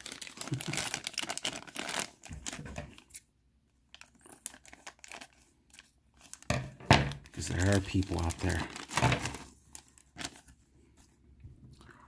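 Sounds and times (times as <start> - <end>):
plastic bags crinkling: 0.0 - 3.2, 3.9 - 10.6.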